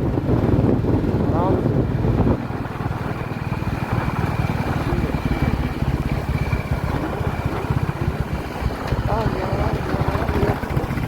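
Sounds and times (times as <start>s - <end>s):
motorcycle engine thumping: 0.2s - 11.0s.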